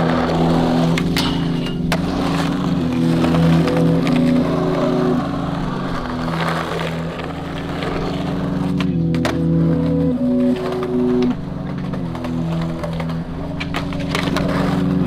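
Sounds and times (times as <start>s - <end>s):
music with low sustained chords: 0.0s - 15.0s
skateboard clacks: 0.0s - 15.0s
skateboard wheels rolling on pavement: 0.0s - 15.0s.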